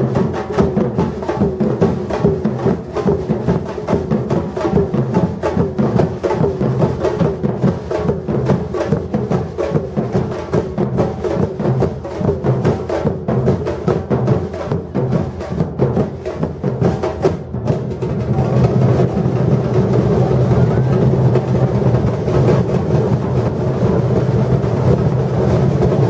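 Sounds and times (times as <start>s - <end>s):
samba drum ensemble: 0.0s - 26.0s.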